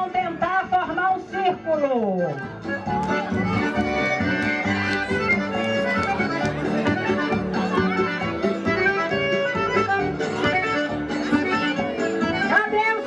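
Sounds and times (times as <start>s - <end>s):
accordion-led folk dance music: 0.0s - 13.0s.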